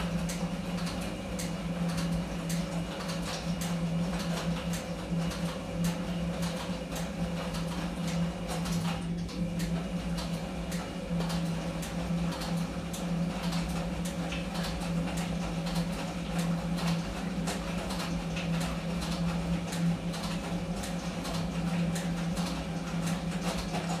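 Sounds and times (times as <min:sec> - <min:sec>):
washing machine motor hum: 0:00.0 - 0:24.0.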